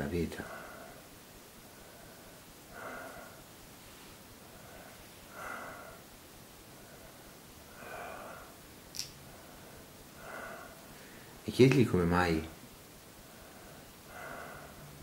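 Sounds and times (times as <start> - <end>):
man breathing slowly: 0.4 - 11.4, 13.2 - 15.0.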